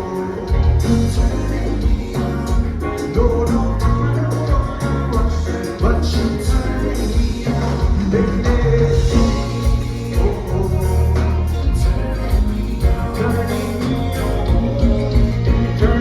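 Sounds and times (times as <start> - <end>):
live band playing: 0.0 - 16.0
person singing: 0.0 - 16.0.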